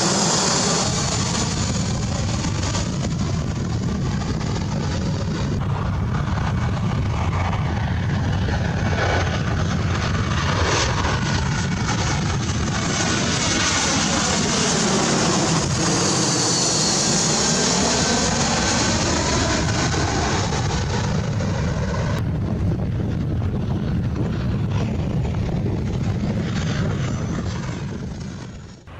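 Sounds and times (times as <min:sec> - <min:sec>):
airplane engines passing: 0:00.0 - 0:28.9.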